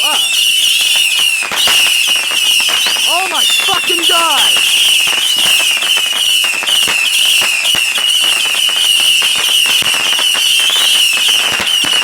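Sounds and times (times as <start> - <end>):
fireworks crackling pops: 0.0 - 12.0
fireworks warbling whistle: 0.0 - 12.0.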